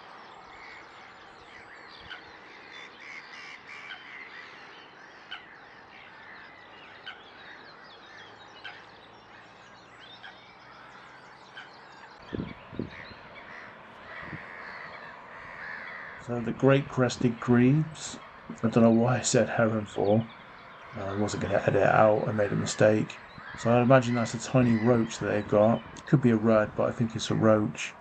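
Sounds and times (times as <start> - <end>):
small birds chirping and trilling: 0.0 - 28.0.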